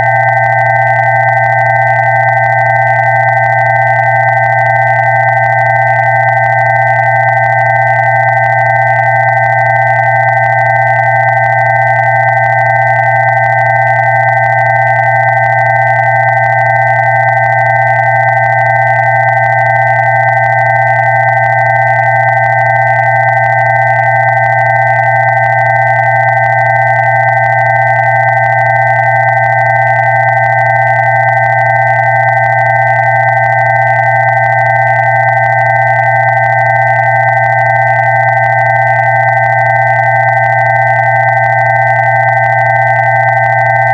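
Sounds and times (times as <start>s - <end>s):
steady electronic pure tones: 0.0s - 43.9s.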